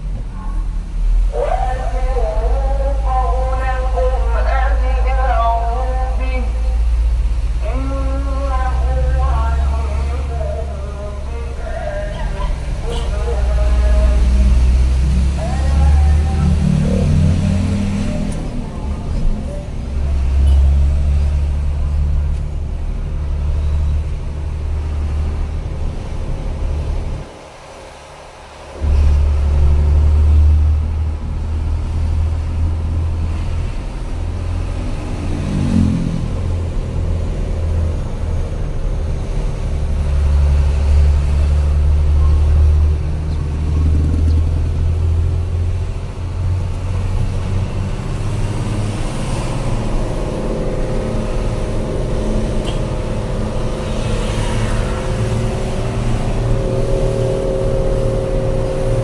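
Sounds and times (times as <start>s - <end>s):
higher engine note: 0.0s - 27.4s, 28.7s - 59.0s
road noise: 0.0s - 59.0s
truck engine drone: 0.0s - 59.0s.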